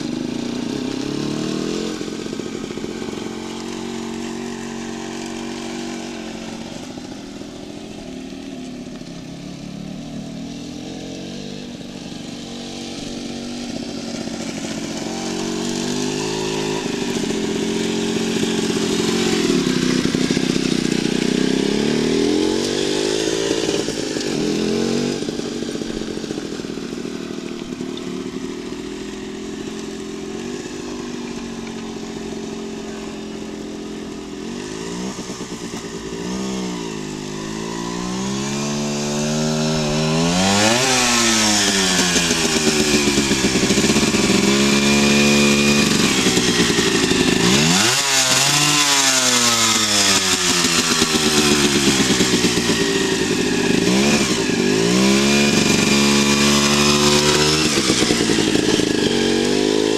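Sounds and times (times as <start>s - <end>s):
two-stroke motorbike engine buzzing: 0.0s - 59.9s.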